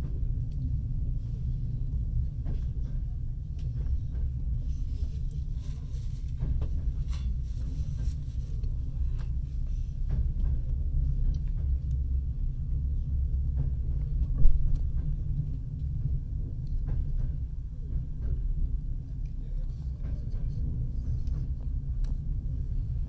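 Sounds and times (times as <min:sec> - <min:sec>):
train carriage rumbling on track: 0:00.0 - 0:23.0.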